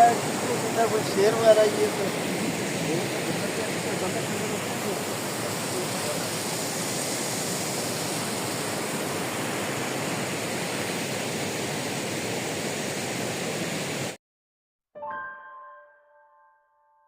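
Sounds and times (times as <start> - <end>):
rushing river water: 0.0 - 14.2.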